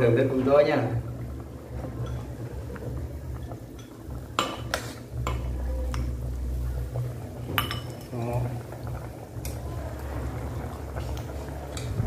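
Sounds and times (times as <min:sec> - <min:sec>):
steady low hum: 0:00.9 - 0:12.0.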